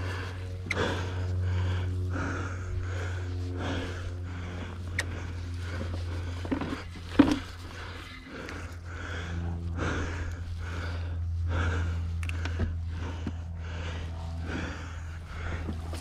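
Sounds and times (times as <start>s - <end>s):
man panting hard: 0.0s - 16.0s.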